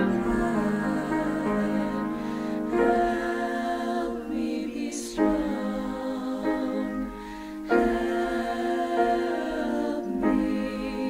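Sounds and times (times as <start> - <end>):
musical accompaniment: 0.0 - 11.0
vocal trio singing a ballad: 0.0 - 11.0.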